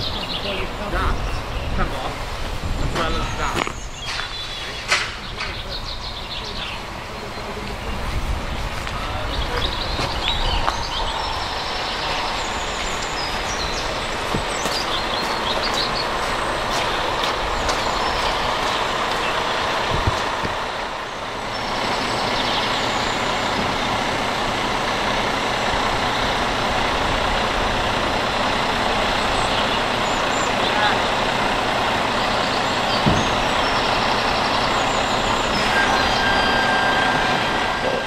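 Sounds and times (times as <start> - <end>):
lorry diesel engine running: 0.0 - 38.0.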